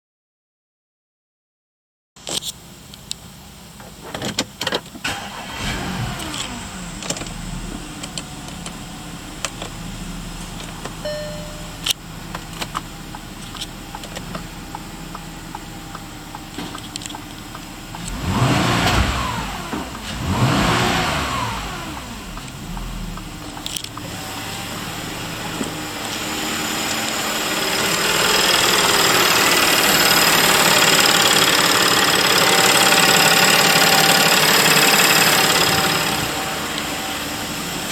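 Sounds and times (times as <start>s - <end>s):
car engine starting and idling: 2.3s - 37.9s
engine revving: 5.1s - 37.9s.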